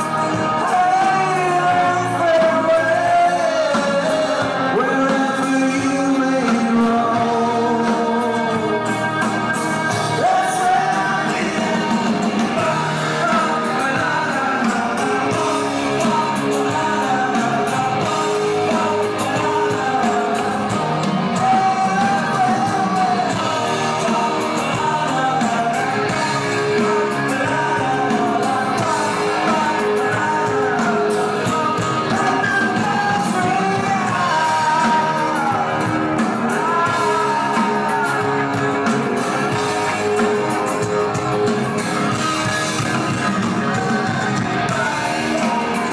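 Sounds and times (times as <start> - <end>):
lead vocal singing: 0.0 - 45.9
live rock band playing: 0.0 - 45.9.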